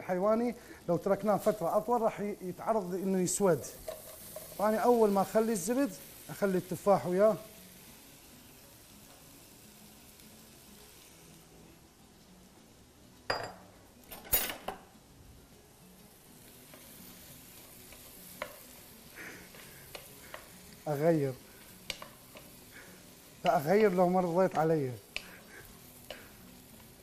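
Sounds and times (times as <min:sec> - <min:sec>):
food sizzling faintly: 0:00.0 - 0:14.0, 0:15.0 - 0:27.0.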